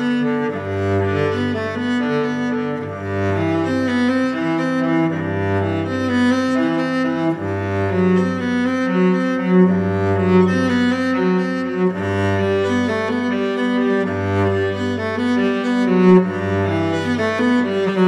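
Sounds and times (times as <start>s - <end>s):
bowed strings music: 0.0s - 18.0s.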